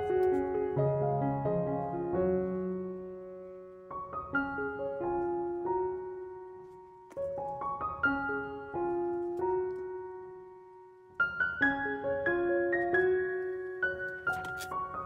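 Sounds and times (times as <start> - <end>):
gentle solo piano melody: 0.0 - 15.0.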